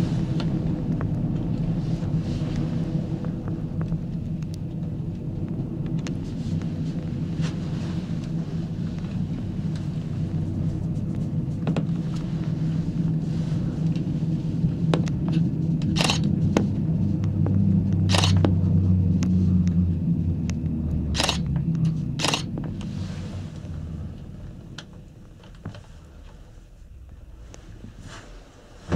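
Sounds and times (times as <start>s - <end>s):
gondola low rumbling hum: 0.0s - 28.9s.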